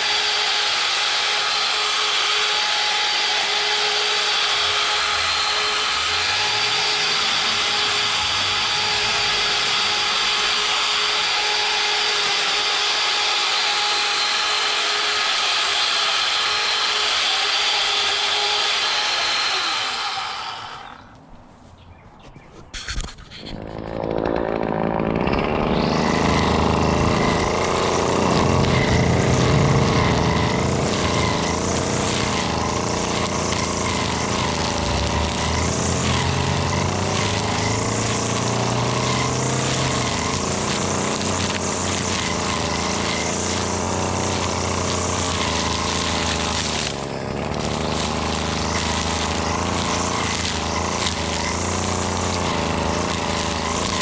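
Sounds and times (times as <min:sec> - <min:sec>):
string trimmer running: 0:00.0 - 0:21.3, 0:23.5 - 0:54.0.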